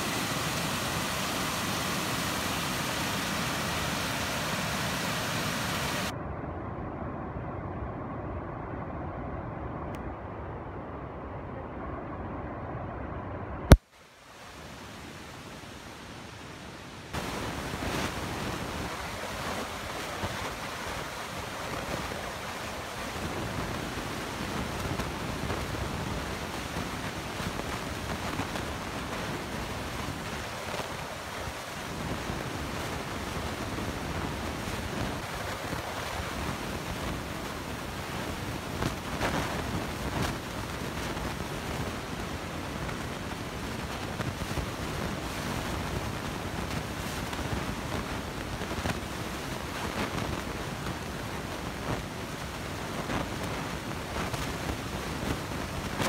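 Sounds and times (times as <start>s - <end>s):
water rushing over boulders: 0.0s - 6.1s, 13.7s - 56.0s.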